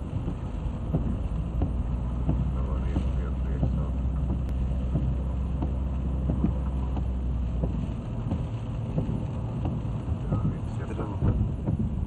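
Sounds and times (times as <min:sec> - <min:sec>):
flooded river rumbling: 0:00.0 - 0:12.0.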